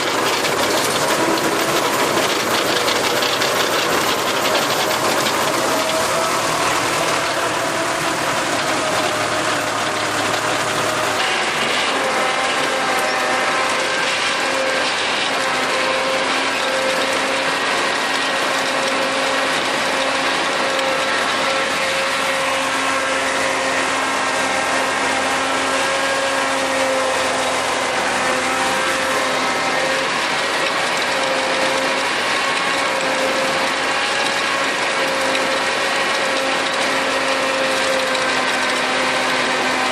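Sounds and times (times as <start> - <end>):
tractor running with rotary tiller: 0.0 - 39.9.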